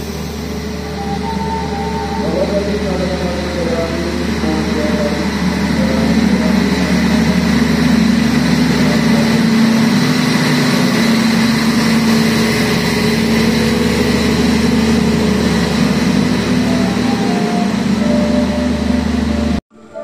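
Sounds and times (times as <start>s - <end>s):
locomotive engine idling: 0.0s - 20.0s.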